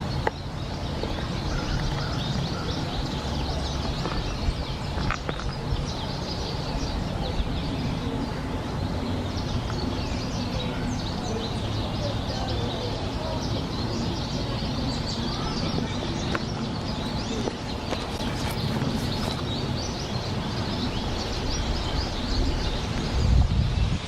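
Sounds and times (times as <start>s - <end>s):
bird chirps and calls: 0.0s - 23.4s.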